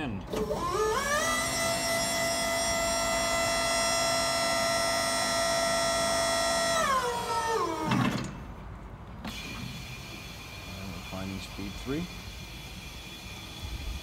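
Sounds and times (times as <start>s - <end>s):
hydraulic pump motor whining: 0.2s - 8.6s, 9.2s - 14.0s.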